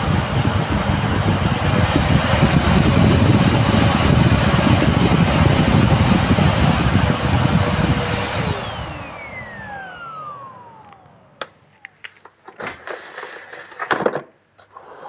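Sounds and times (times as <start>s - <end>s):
vacuum cleaner motor spinning down: 0.0s - 12.1s.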